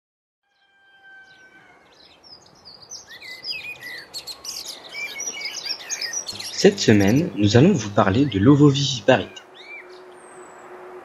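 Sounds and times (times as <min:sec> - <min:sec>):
small birds chirping and warbling: 0:00.6 - 0:10.8.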